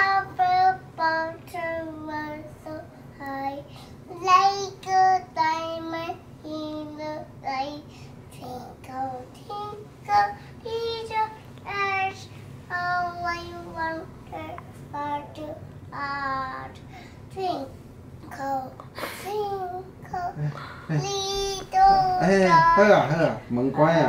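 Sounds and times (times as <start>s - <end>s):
young child singing: 0.0s - 23.3s.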